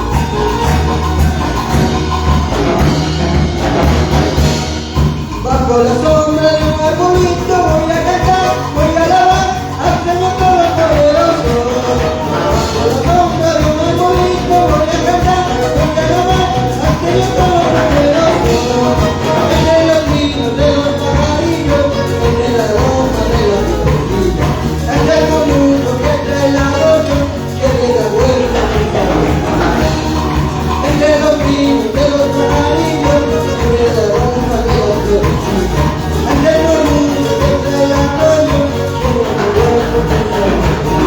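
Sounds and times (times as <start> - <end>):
worship band music: 0.0 - 41.0
person singing: 5.2 - 41.0.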